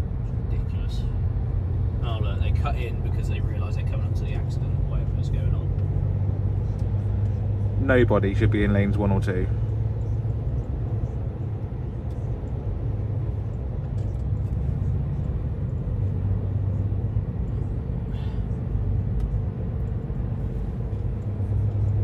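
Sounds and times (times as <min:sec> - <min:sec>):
lorry engine drone: 0:00.0 - 0:22.0
road rumble: 0:00.0 - 0:22.0.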